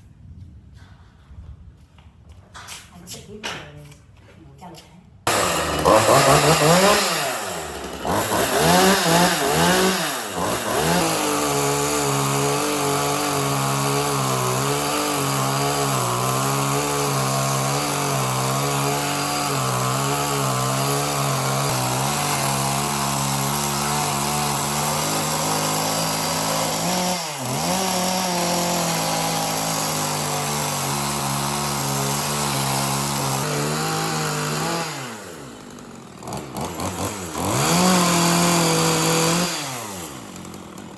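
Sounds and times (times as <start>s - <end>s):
chainsaw revving: 5.3s - 40.9s.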